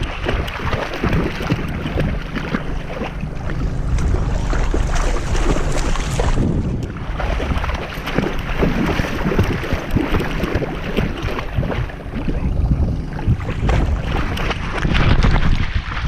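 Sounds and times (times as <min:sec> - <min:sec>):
river water splashing: 0:00.0 - 0:16.0.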